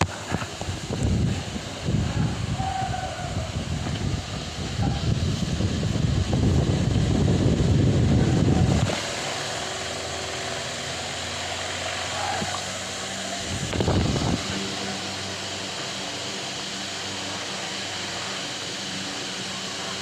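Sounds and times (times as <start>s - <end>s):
fan airflow rumbling on microphone: 0.0s - 20.0s
fan motor hum: 0.0s - 20.0s.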